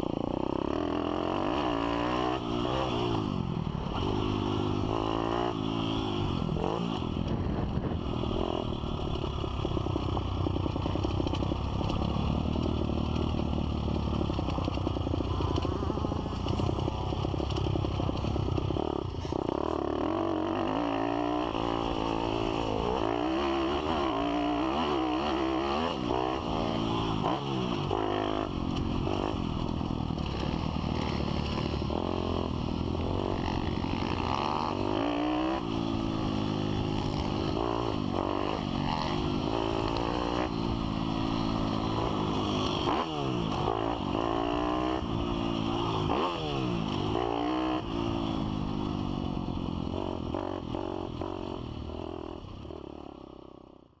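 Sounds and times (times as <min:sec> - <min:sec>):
motorbike engine revving: 0:00.0 - 0:52.4.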